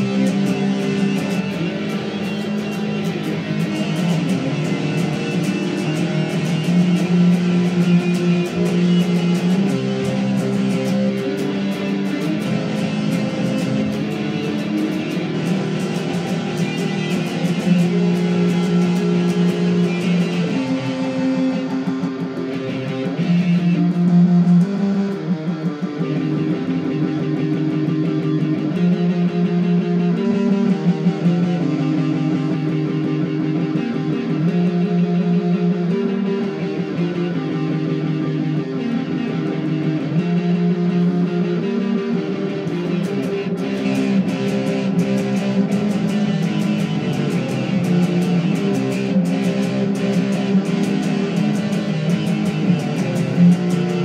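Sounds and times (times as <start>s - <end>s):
guitar chords: 0.0s - 54.0s.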